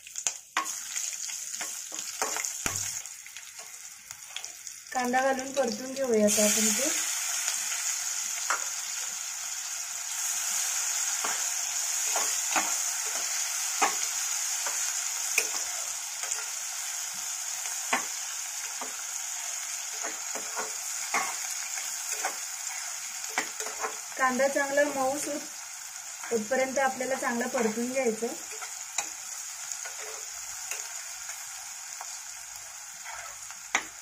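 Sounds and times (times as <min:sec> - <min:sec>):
onion sizzling in oil: 0:00.0 - 0:34.0.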